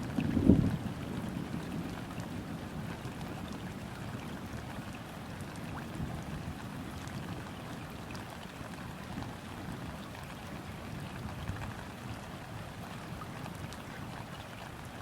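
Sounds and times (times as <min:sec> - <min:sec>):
low wash of water: 0:00.0 - 0:15.0
rain pattering on river: 0:00.0 - 0:15.0.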